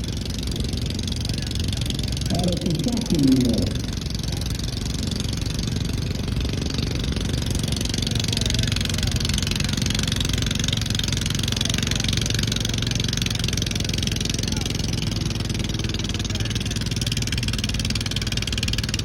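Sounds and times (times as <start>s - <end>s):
garden tractor engine running: 0.0s - 19.0s.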